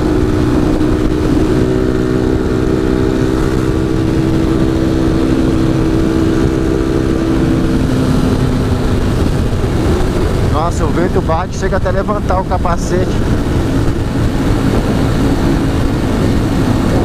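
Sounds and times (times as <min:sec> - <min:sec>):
motorcycle engine running: 0:00.0 - 0:17.0
wind buffeting on microphone: 0:00.0 - 0:17.0.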